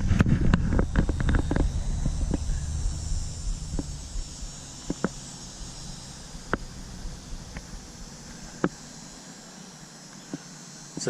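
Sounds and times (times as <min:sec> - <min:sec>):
low rumble: 0:00.0 - 0:09.2
high-pitched hiss: 0:00.0 - 0:11.0.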